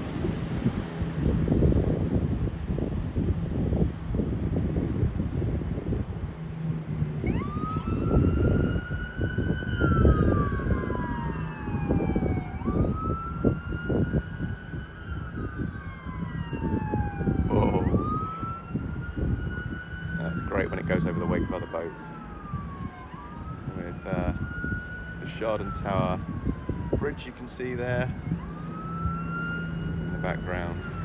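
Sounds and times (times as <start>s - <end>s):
police boat siren wailing: 0.0s - 31.0s
wind buffeting microphone: 0.0s - 31.0s.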